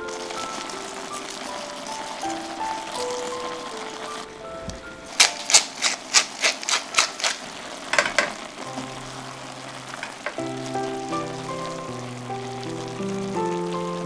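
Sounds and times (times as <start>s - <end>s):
soft background music: 0.0s - 6.8s, 8.3s - 14.0s
spice mill grinding: 0.1s - 4.2s, 5.1s - 12.6s.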